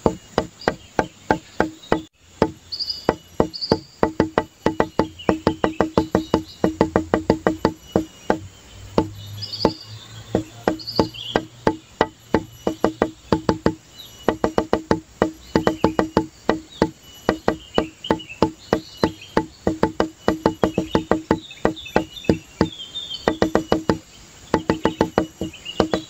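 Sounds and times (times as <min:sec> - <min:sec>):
knocking wood block music: 0:00.0 - 0:26.0.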